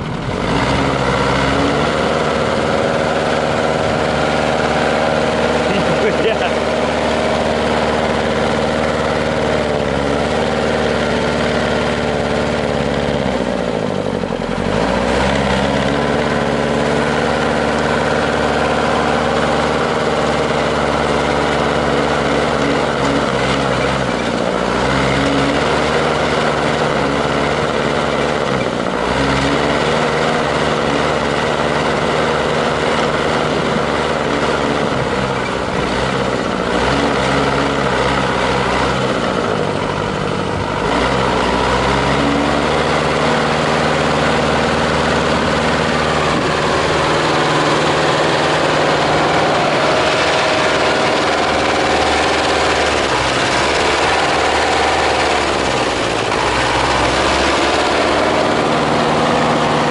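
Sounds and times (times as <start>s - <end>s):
truck engine under load: 0.0s - 59.9s.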